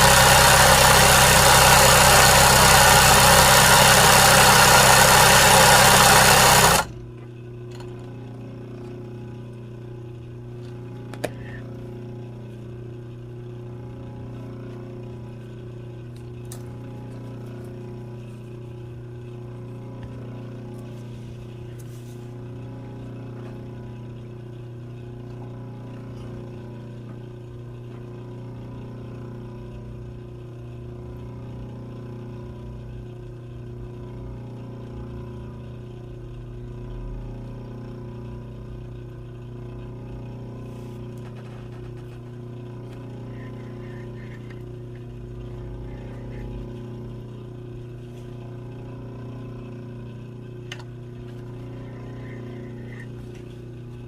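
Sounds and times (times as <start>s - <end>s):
low motor hum pulsing: 0.0s - 54.0s.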